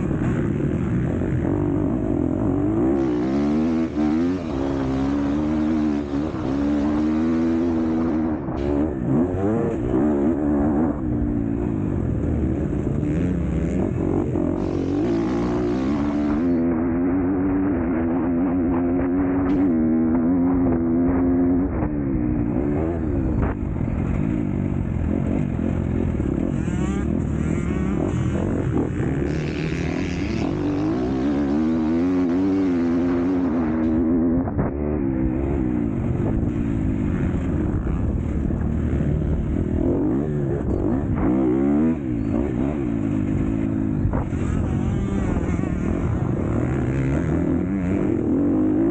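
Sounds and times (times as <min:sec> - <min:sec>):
motocross bike engine: 0:00.0 - 0:48.9.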